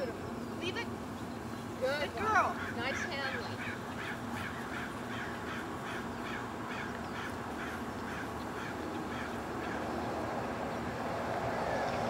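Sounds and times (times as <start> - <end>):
bird calling: 0.0 - 10.2.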